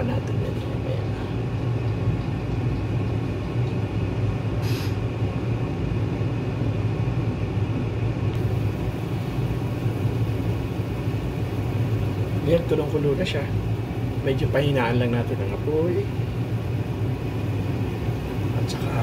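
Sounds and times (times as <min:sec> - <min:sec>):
pot boiling: 0:00.0 - 0:19.0.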